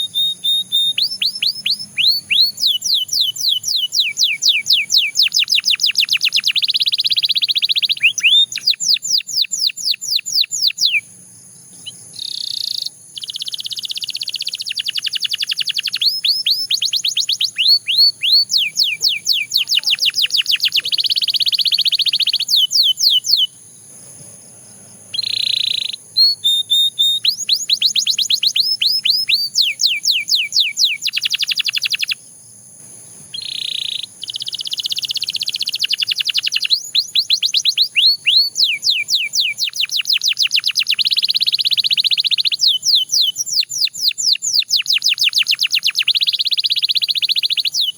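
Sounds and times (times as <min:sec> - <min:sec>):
canary singing fast trills: 0:00.0 - 0:47.9.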